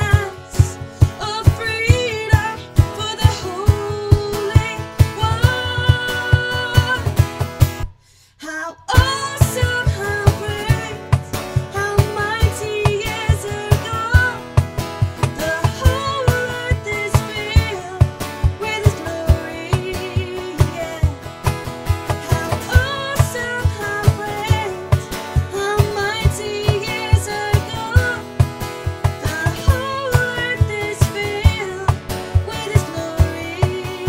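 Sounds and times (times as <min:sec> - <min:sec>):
woman singing: 0:00.0 - 0:07.5, 0:08.4 - 0:34.0
strummed acoustic guitar: 0:00.0 - 0:08.0, 0:08.9 - 0:34.0.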